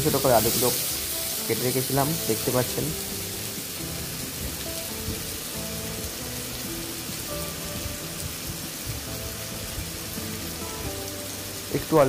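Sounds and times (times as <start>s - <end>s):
potatoes sizzling in oil: 0.0s - 12.0s
soft background music: 0.0s - 12.0s.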